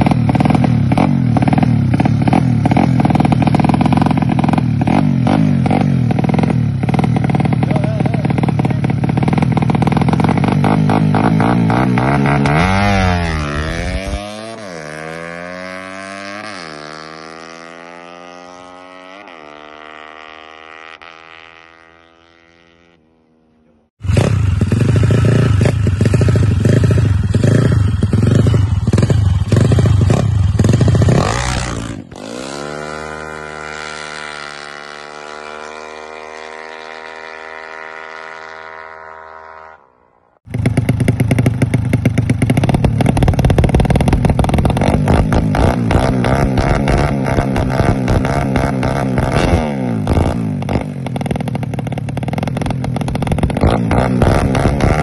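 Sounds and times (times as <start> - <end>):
motorcycle revving loudly: 0.0 - 23.1, 24.0 - 55.0
motorcycle engine accelerating: 0.0 - 55.0.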